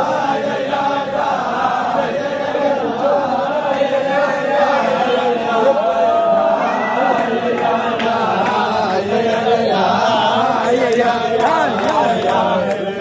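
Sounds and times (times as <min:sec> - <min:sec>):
men singing together: 0:00.0 - 0:13.0.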